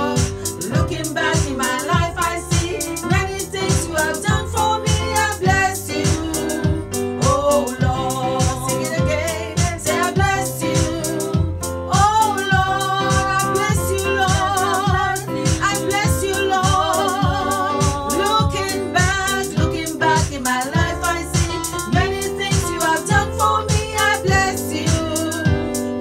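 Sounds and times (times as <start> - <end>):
steady beat: 0.0 - 25.8
keyboard accompaniment: 0.0 - 26.0
woman singing with vibrato: 0.0 - 26.0.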